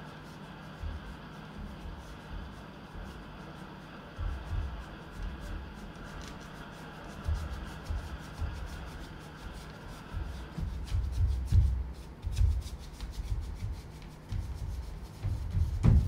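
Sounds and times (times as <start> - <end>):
bare feet on wooden floor: 0.8 - 3.5, 4.1 - 16.0.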